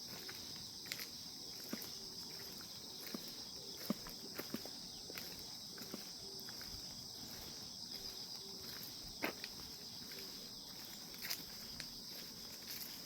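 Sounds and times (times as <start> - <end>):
crickets chirping chorus: 0.0 - 13.0.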